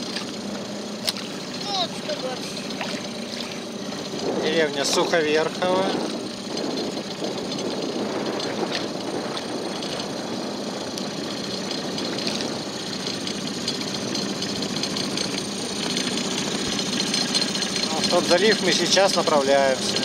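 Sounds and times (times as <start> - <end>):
outboard motor running: 0.0 - 20.0
rush of moving boat: 0.0 - 20.0.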